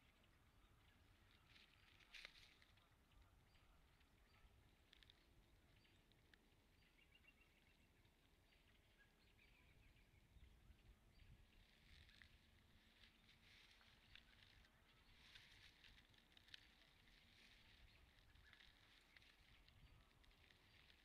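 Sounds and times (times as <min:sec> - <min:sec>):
faint rustle: 0:00.0 - 0:07.0, 0:11.1 - 0:21.0.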